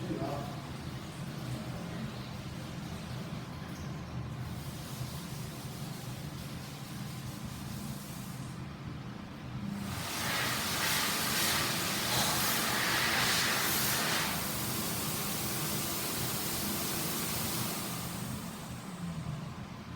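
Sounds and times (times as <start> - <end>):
ventilation fan air rush: 0.0 - 19.9.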